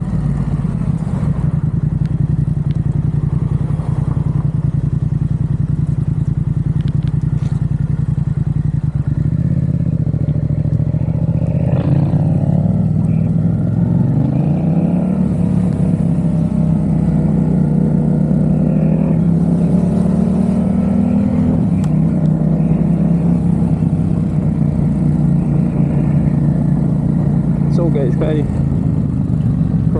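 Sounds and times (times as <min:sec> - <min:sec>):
motorcycle engine accelerating: 0:00.0 - 0:29.9.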